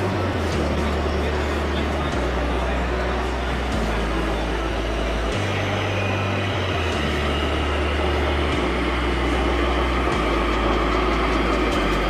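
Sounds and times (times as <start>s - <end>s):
model truck engine drone: 0.0s - 12.0s
steady background noise: 0.0s - 12.0s.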